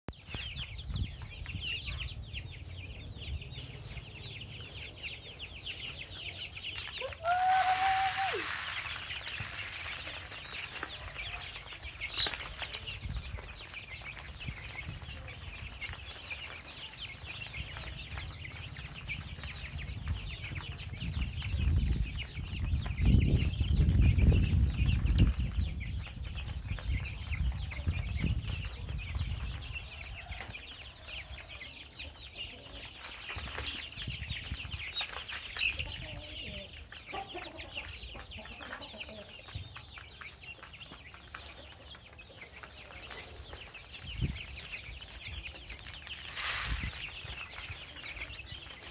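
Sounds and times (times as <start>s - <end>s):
chicks peeping: 0.1s - 48.9s.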